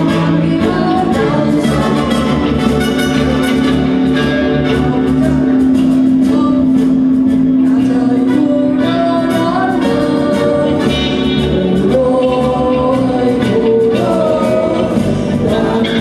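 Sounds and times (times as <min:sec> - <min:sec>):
group of people singing: 0:00.0 - 0:05.4, 0:07.6 - 0:16.0.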